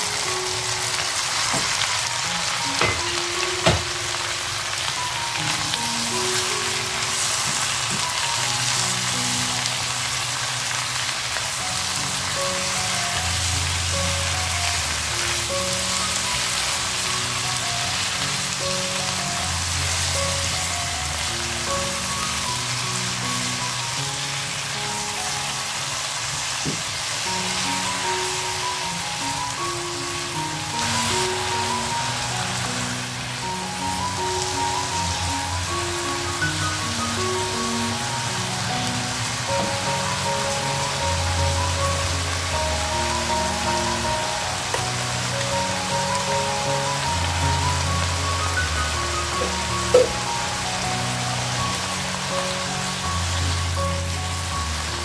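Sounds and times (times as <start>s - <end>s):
vegetables sizzling in a wok: 0.0s - 55.0s.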